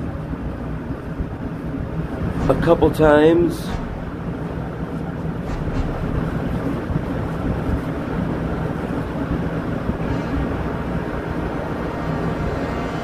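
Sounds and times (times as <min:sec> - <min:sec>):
machinery humming and rumbling: 0:00.0 - 0:13.0.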